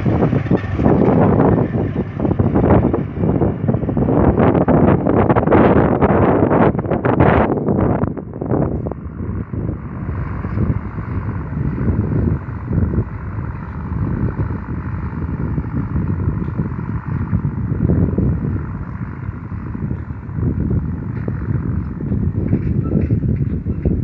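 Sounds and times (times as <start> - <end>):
distant tractor running: 0.0 - 24.0
wind buffeting microphone: 0.0 - 24.0.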